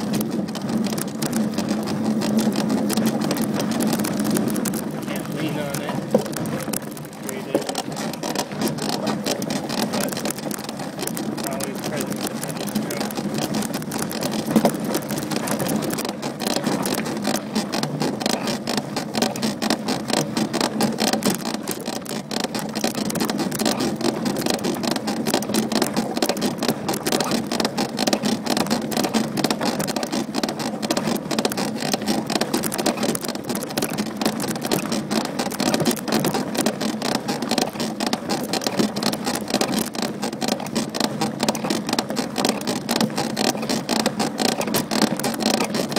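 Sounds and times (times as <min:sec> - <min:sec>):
bike clicking and rattling: 0:00.0 - 0:45.9.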